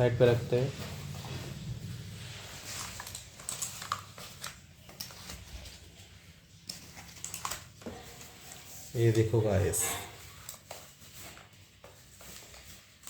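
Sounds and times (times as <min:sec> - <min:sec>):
packaging rustling: 0:00.2 - 0:13.0.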